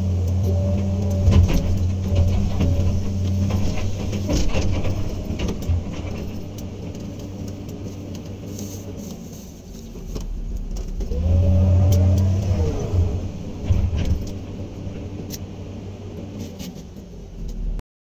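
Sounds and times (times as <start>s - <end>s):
excavator diesel engine running: 0.0s - 17.8s.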